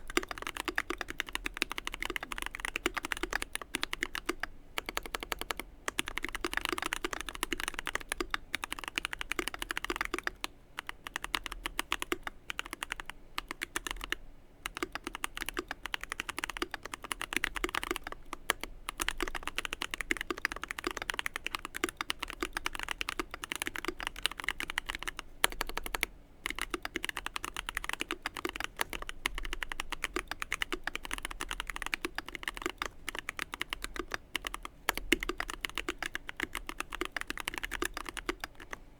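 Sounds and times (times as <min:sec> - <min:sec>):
mechanical keyboard typing: 0:00.0 - 0:38.8.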